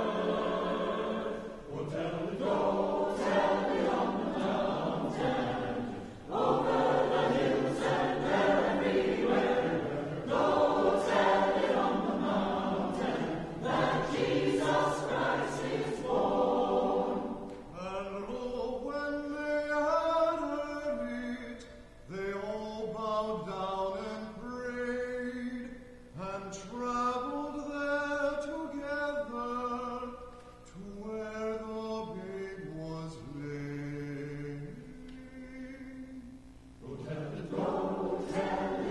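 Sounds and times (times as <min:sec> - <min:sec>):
choir singing slowly: 0:00.0 - 0:38.9.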